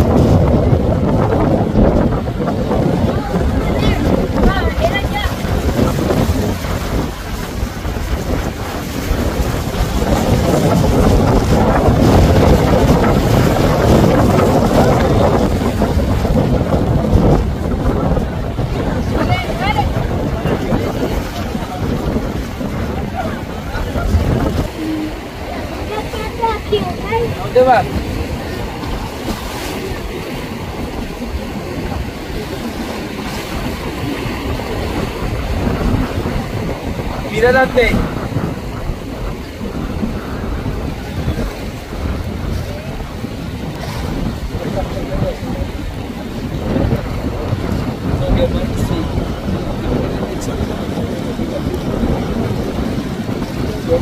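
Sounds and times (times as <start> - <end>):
choppy water: 0.0 - 54.0
rushing boat wake: 0.0 - 54.0
wind rumbling on microphone: 0.0 - 54.0.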